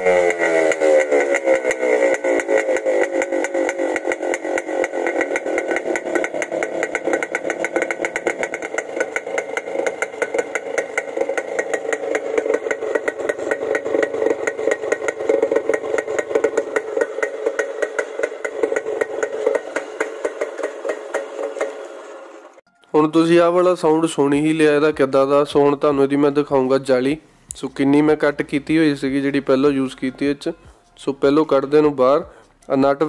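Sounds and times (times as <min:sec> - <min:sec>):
motorcycle engine exhaust popping: 0:00.0 - 0:22.7, 0:24.3 - 0:33.0.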